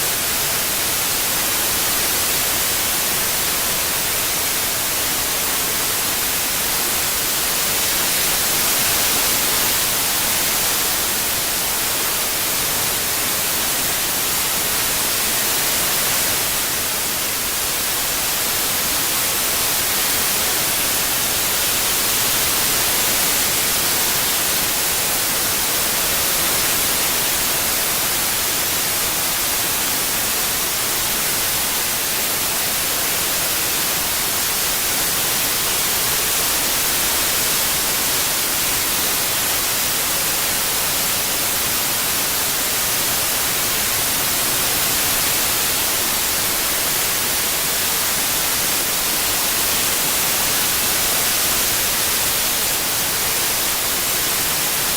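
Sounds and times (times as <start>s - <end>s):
white noise hiss: 0.0s - 54.9s.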